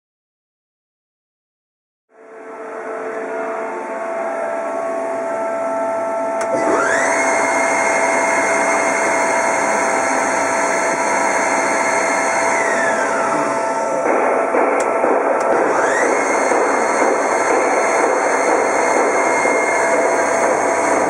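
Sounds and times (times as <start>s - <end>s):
spindle whine: 2.1s - 21.0s
lathe mechanical hum: 2.2s - 21.0s.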